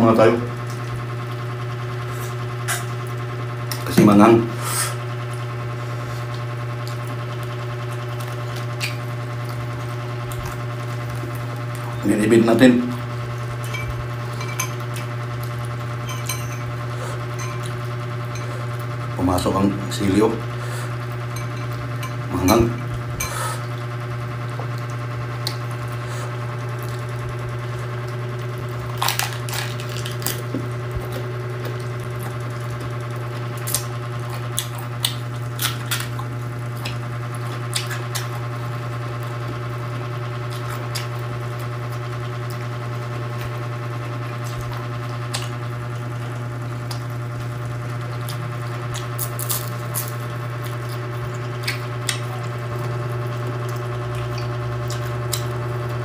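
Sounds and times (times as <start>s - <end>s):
steady low hum: 0.0s - 56.0s
chewing crunchy cabbage: 0.5s - 56.0s.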